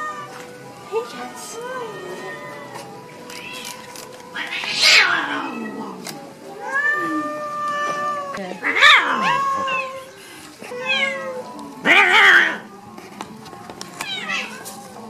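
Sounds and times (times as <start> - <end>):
cats meowing: 0.0 - 12.9, 13.9 - 15.0.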